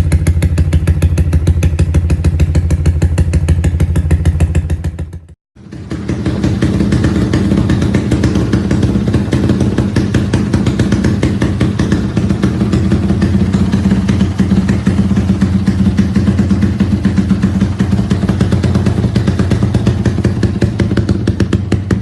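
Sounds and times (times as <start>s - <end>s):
motorcycle exhaust running: 0.0s - 22.0s.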